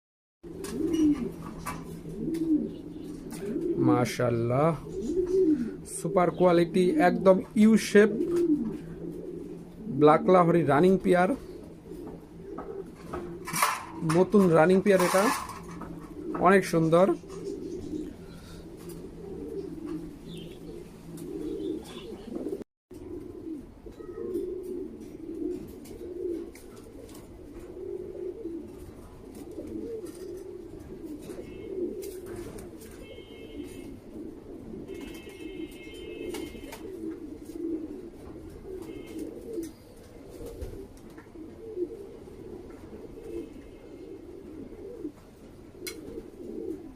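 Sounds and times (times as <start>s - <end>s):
pigeons cooing: 0.4s - 46.9s.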